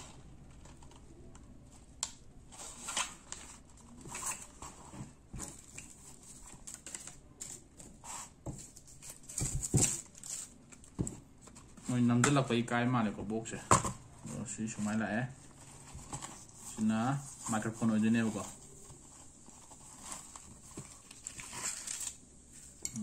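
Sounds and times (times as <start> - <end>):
cardboard and plastic crinkling: 0.0 - 12.4, 13.5 - 22.8.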